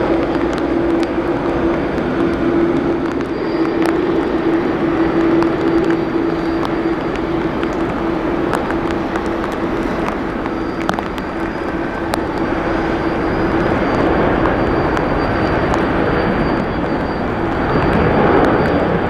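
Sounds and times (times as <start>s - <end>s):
sharp ticks: 0.0s - 15.9s
jet engine drone: 0.0s - 19.0s.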